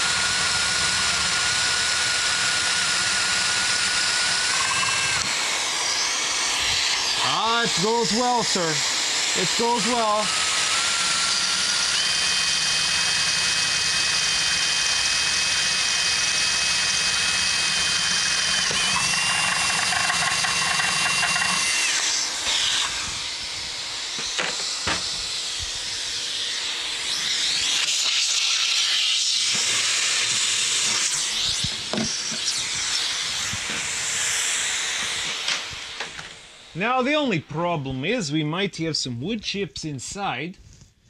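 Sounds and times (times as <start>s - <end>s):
cordless drill boring wood: 0.0s - 37.0s
vacuum hose hissing: 0.0s - 38.0s.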